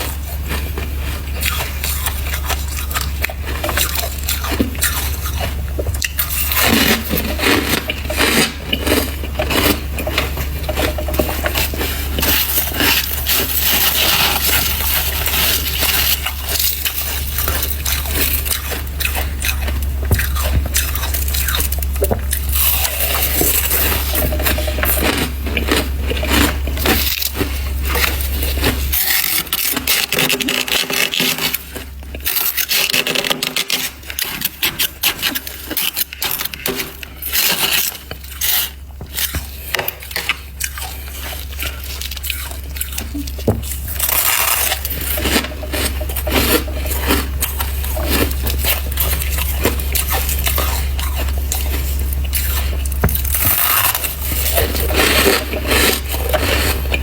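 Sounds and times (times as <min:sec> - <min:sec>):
crunching frost being chewed: 0:00.0 - 0:57.0
scraping sounds: 0:00.0 - 0:57.0
steady low hum: 0:00.0 - 0:57.0.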